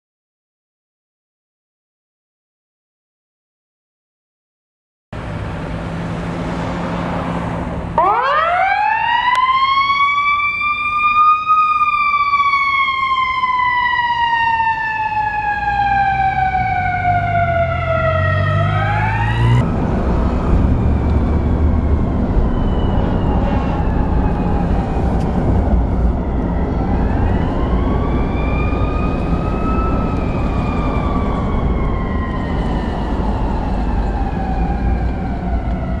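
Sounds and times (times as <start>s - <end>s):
fire engine siren wailing: 5.2s - 36.0s.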